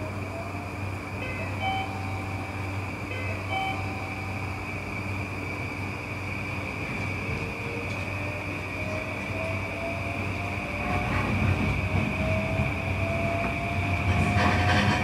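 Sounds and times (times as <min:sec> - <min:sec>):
electric train motor whine: 0:00.0 - 0:15.0
train wheels rumbling on rails: 0:00.0 - 0:15.0.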